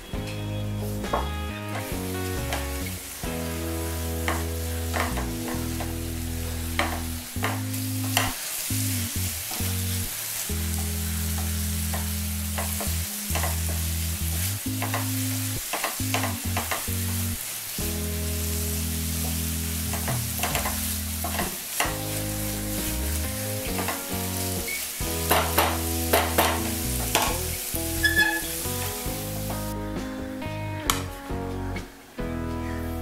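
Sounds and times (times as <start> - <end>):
food sizzling: 0.0 - 33.0.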